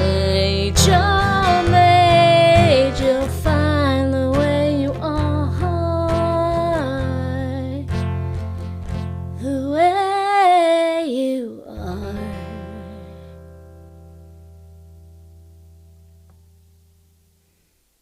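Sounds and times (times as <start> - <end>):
acoustic guitar strumming: 0.0 - 11.0, 11.8 - 16.8.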